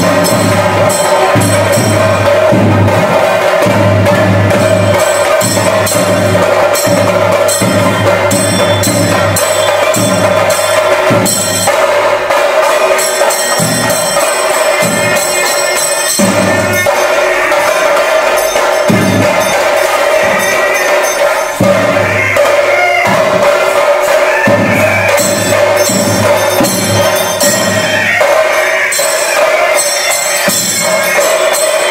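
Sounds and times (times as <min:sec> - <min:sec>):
drums: 0:00.0 - 0:31.9
small cymbals: 0:00.0 - 0:31.9.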